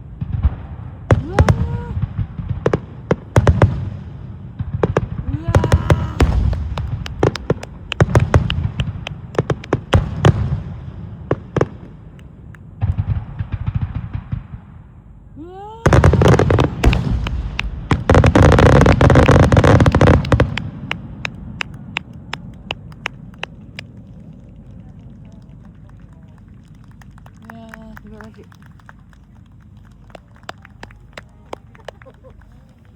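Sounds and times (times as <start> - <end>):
firework crackling: 0.3 - 13.7, 15.9 - 32.9.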